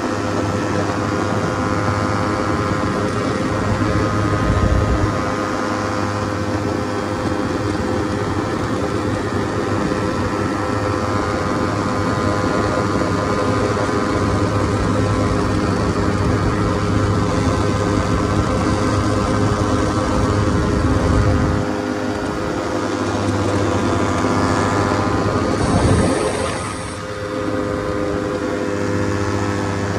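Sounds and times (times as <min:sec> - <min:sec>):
light aircraft engine drone: 0:00.0 - 0:29.9
rushing wind: 0:00.0 - 0:29.9.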